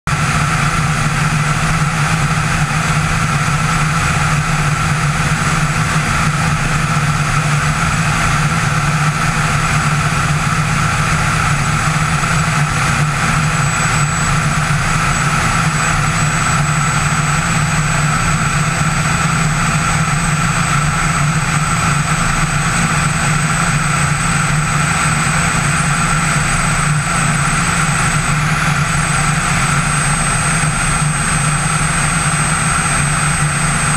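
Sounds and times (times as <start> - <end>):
aircraft engine and propeller: 0.0 - 33.9
airflow over microphone: 0.1 - 33.9.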